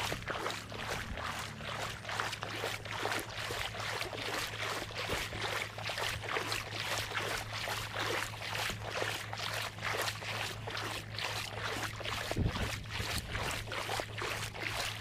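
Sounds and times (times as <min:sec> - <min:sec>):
steady low hum: 0:00.0 - 0:15.0
wading through splashing water: 0:00.0 - 0:15.0.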